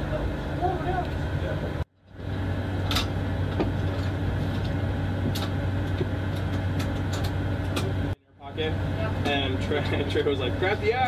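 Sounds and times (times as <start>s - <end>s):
aircraft cabin drone: 0.0s - 11.0s.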